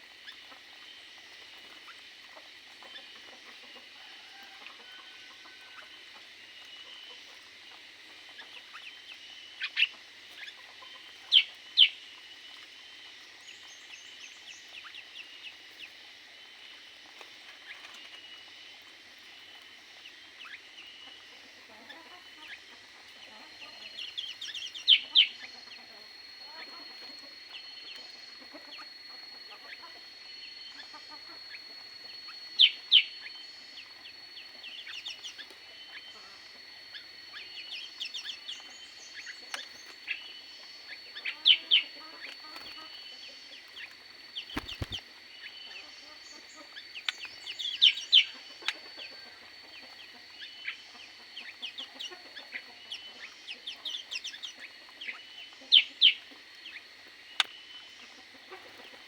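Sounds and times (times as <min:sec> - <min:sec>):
aviary birds chirping: 0:00.0 - 0:59.0.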